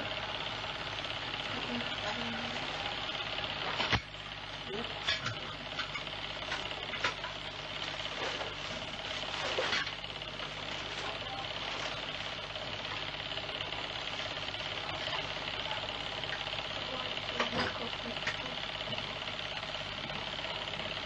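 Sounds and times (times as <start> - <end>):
mechanical whirring with hum: 0.0 - 21.0.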